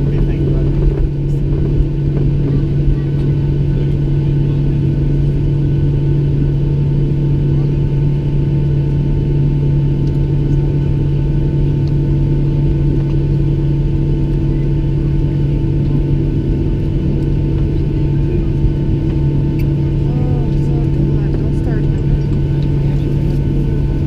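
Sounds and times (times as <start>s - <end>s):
jet engines idling in cabin: 0.0s - 24.0s.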